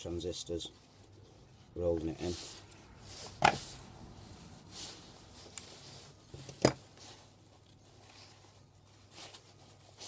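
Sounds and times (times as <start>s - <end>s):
faint handling noise: 0.0s - 10.0s.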